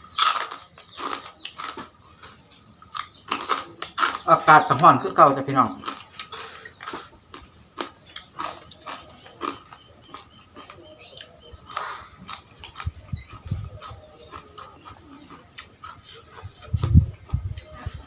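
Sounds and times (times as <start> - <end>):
person chewing food: 0.0 - 4.3, 5.6 - 18.0.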